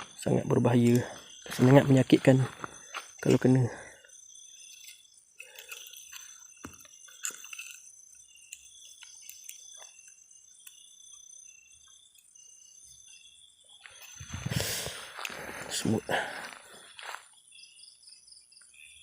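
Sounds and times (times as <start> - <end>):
night insects chirring: 0.0 - 19.0.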